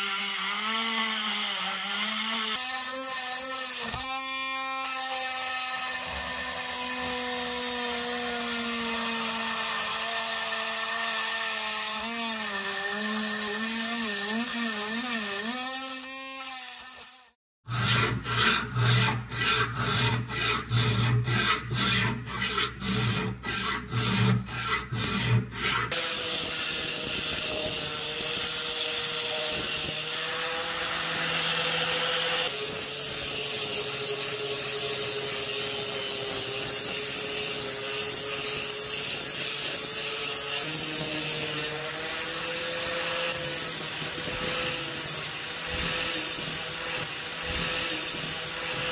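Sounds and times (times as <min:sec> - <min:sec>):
angle grinder grinding steel: 0:00.0 - 0:48.9.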